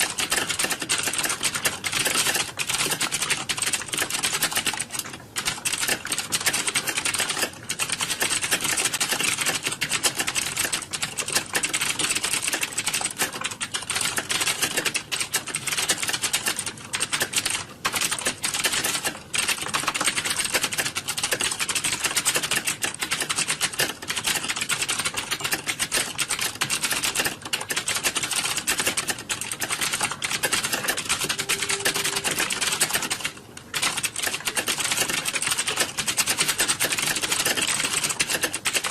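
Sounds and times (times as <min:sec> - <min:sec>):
fast typing on computer keyboard: 0:00.0 - 0:38.9.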